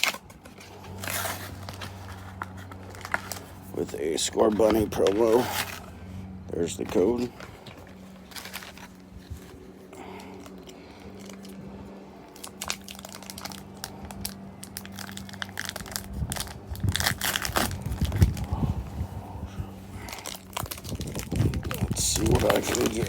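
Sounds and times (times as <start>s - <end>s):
foil wrapper crinkling: 0.0s - 5.9s, 6.6s - 11.7s, 12.3s - 18.7s, 20.0s - 23.0s.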